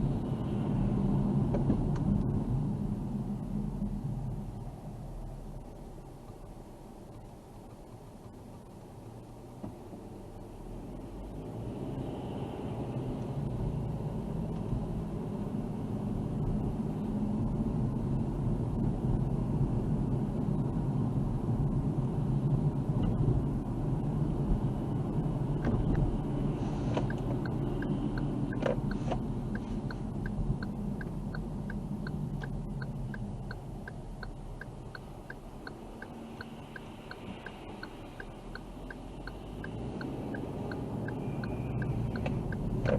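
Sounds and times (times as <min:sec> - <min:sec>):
car road noise rumble: 0:00.0 - 0:42.9
turn signal ticking: 0:05.5 - 0:11.4, 0:12.0 - 0:42.9.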